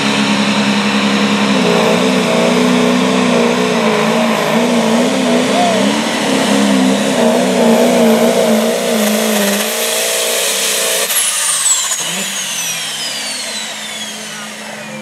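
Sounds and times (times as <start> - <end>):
tractor diesel engine at full throttle: 0.0 - 15.0
turbo whine spooling down: 0.0 - 15.0.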